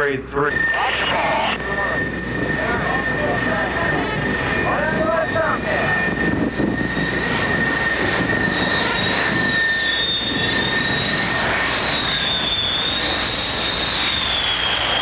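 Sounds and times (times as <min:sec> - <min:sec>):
high turbine whine: 0:00.0 - 0:15.0
jet engines rushing: 0:00.0 - 0:15.0
steady jet whine: 0:00.0 - 0:15.0.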